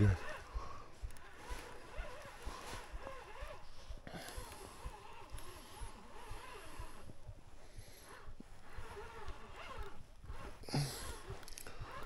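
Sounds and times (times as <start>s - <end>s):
man breathing hard: 0.2s - 8.6s, 10.6s - 12.0s.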